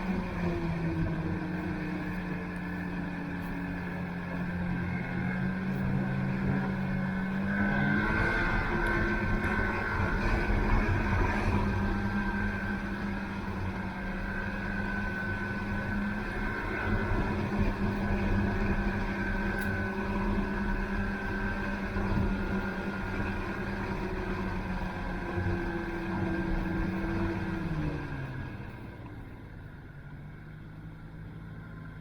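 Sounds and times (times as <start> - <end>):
snowmobile engine droning: 0.0 - 32.0
steady engine whine: 0.0 - 32.0.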